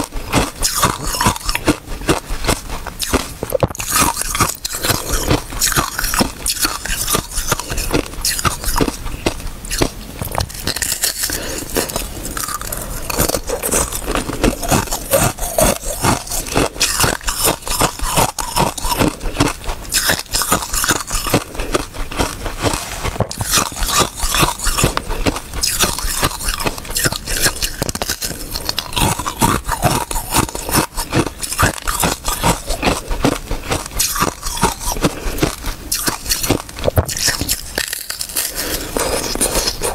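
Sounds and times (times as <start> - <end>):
crunching ice in the mouth: 0.0 - 39.9.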